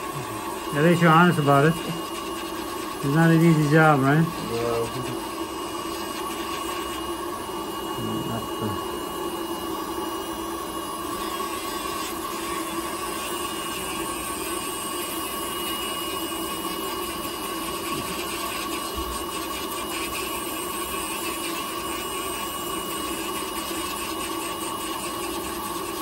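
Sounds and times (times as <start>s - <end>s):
rotary nail drill grinding: 0.0s - 26.0s.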